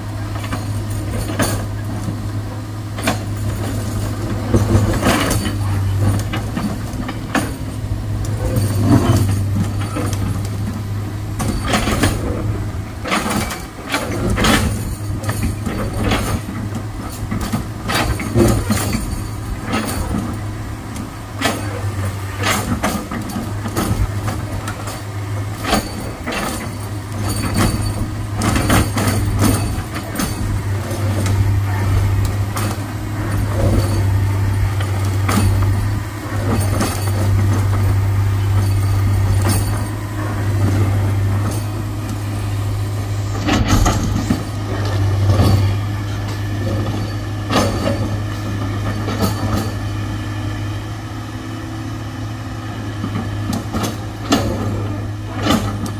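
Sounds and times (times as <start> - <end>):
heavy diesel machinery droning: 0.0 - 55.9
metallic clanks and knocks: 2.9 - 42.8, 43.4 - 49.9.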